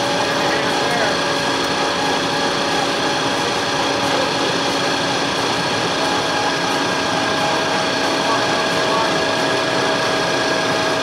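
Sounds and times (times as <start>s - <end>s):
sawmill machinery running: 0.0s - 11.0s
steady machine whine: 0.0s - 11.0s.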